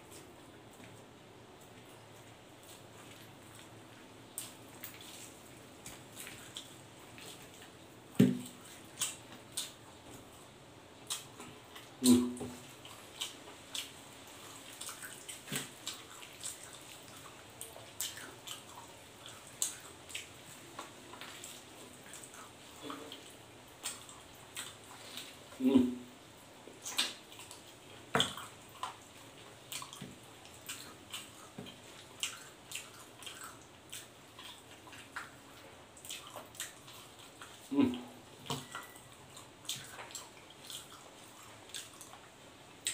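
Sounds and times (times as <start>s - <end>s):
wet chewing and mouth clicks: 0.0s - 25.9s, 26.7s - 42.9s.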